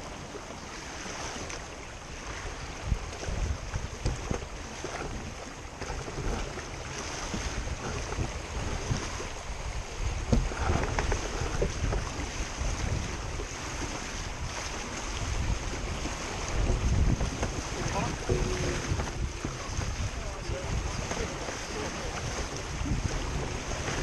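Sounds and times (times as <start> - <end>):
water rushing along a hull: 0.0 - 24.0
wind buffeting microphone: 0.0 - 24.0.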